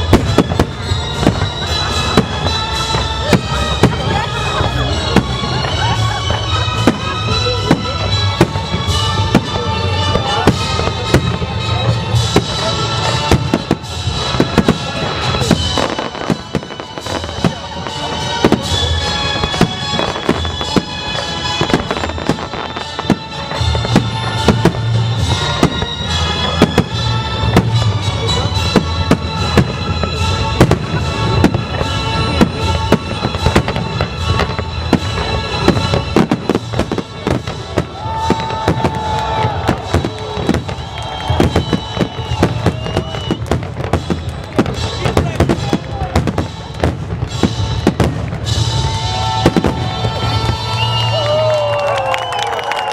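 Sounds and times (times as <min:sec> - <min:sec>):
fireworks bursting: 0:00.0 - 0:52.9
music: 0:00.0 - 0:52.9.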